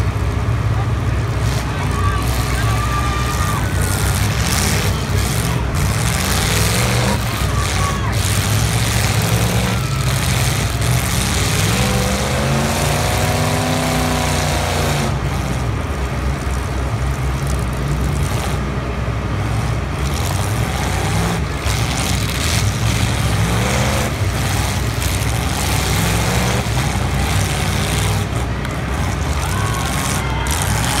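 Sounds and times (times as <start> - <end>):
car engines running hard: 0.0 - 31.0
engine revving: 0.0 - 31.0.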